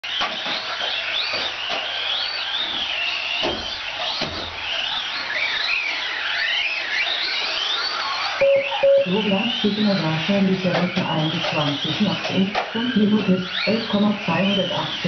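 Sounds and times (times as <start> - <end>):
rc truck electric motors whining: 0.0 - 8.4, 9.2 - 15.0.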